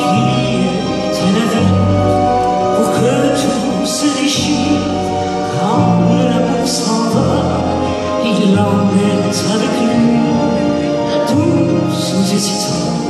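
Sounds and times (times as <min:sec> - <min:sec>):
accordion: 0:00.0 - 0:13.0.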